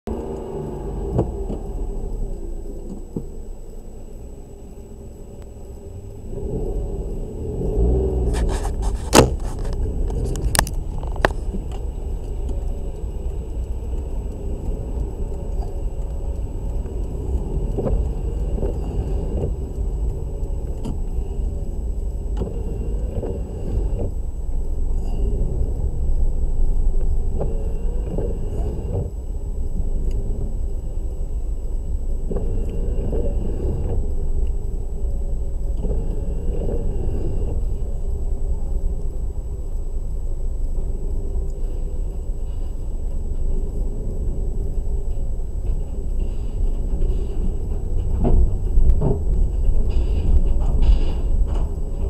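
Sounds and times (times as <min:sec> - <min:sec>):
car cabin rumble: 0:00.1 - 0:52.0.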